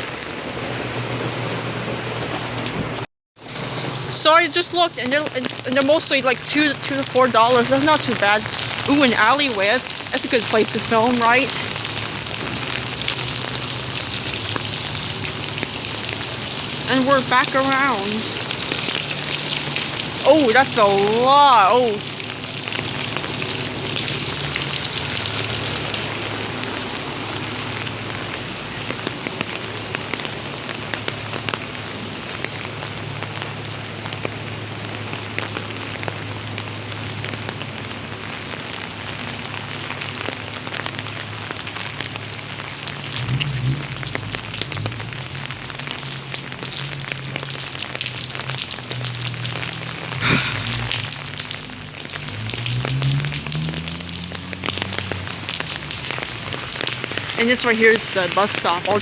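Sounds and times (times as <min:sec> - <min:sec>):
pouring rain: 0:00.0 - 0:59.0.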